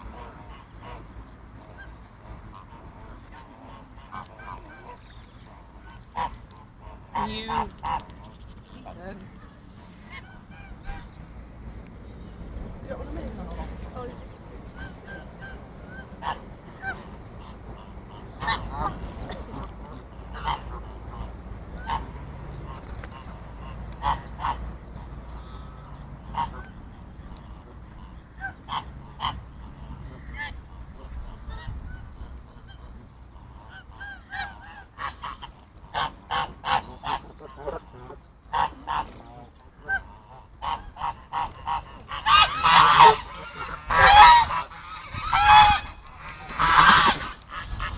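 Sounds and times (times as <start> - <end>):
geese honking: 0.0 - 11.2, 12.9 - 47.9.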